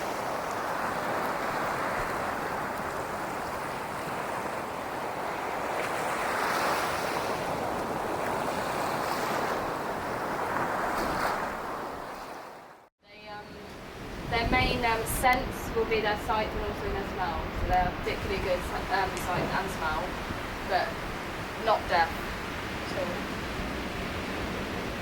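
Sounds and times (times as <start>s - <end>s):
sea surf washing in: 0.0s - 12.8s, 13.7s - 25.0s.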